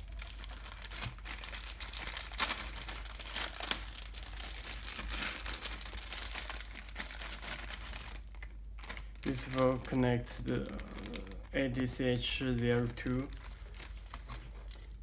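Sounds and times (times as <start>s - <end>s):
low steady hum: 0.0s - 15.0s
packaging crinkling and rustling: 0.0s - 15.0s.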